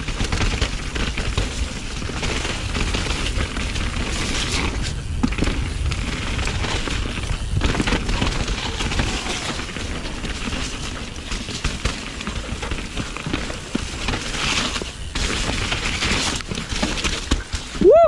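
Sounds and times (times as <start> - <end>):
mountain bike clattering over rocks: 0.0 - 18.0
wind rumble on microphone: 0.0 - 18.0.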